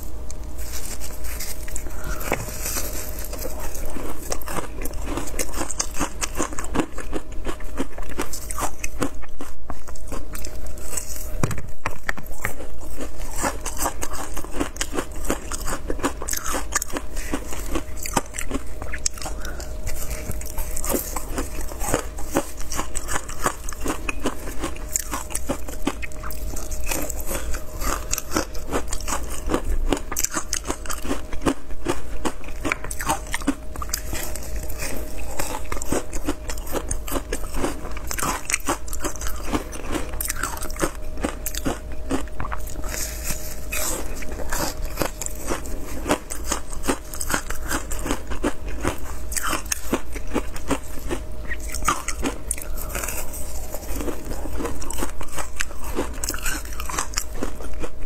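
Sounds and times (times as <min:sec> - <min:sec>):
frozen ice being chewed: 0:00.0 - 0:58.0.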